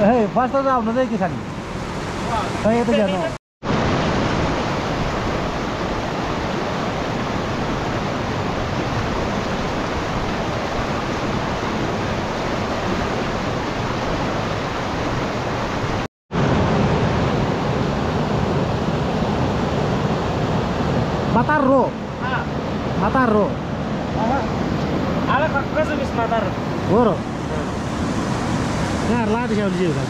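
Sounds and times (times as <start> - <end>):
river rapids roaring: 0.2 - 30.0.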